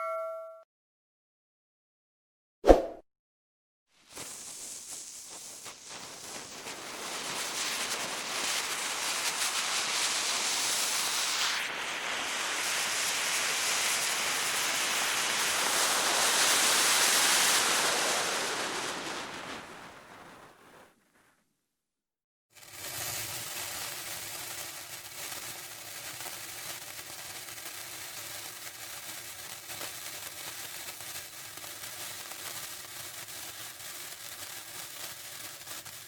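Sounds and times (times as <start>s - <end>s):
burning fuse hissing: 4.0s - 20.8s, 22.6s - 36.0s.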